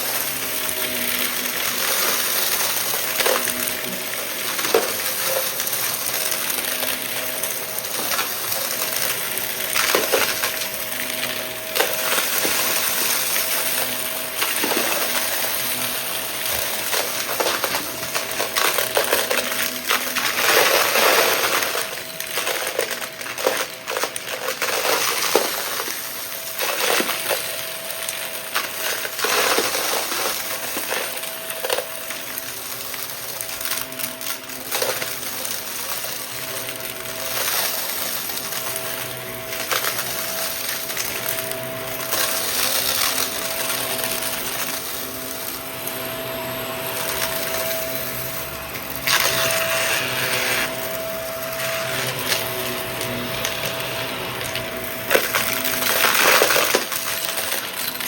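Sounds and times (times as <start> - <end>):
debris rattling in vacuum: 0.0 - 58.0
vacuum cleaner whining: 0.0 - 58.0.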